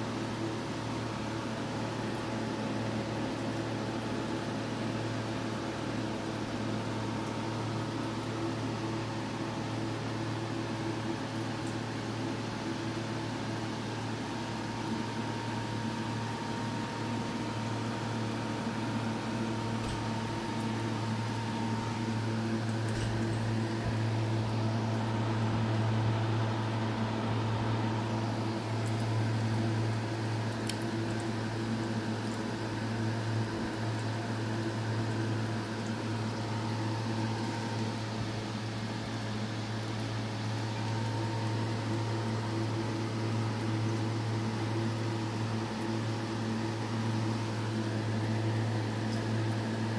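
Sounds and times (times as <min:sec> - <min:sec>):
filter pump electrical hum: 0:00.0 - 0:49.9.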